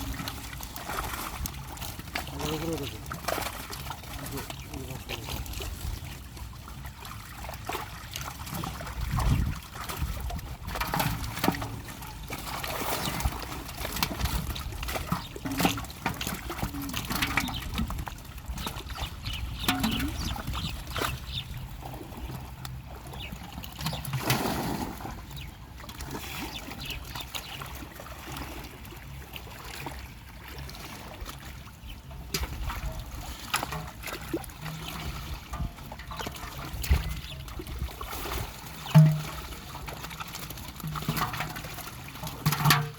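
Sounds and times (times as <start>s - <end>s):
water drips: 0.0s - 26.2s, 29.0s - 42.9s
pond water splashing and trickling: 0.0s - 42.9s.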